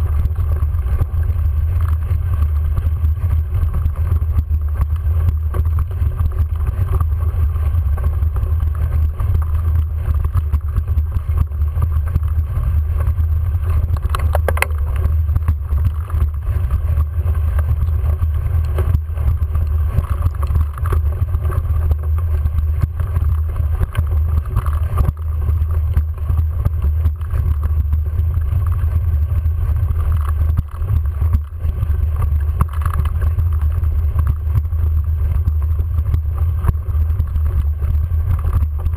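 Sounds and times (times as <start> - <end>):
faint clicks and rattles: 0.0 - 38.9.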